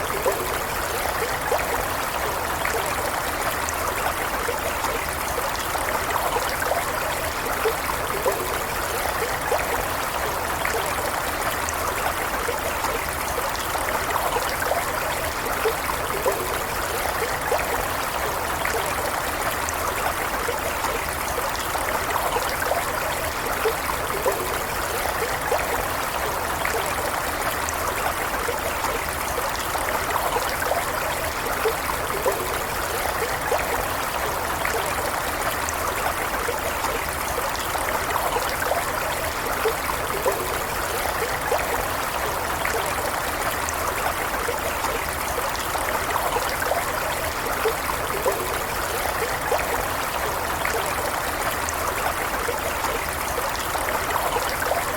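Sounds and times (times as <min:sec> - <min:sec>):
stream running over stones: 0:00.0 - 0:54.9.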